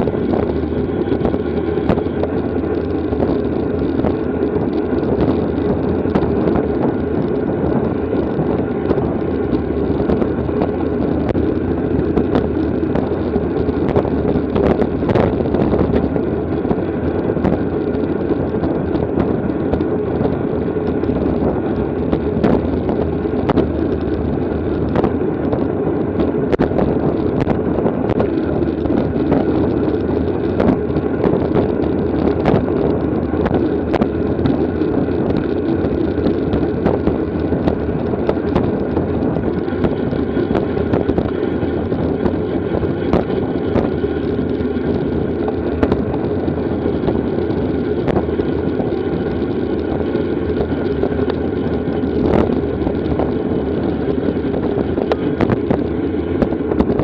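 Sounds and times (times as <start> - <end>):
wind rumbling over camera: 0.0 - 57.0.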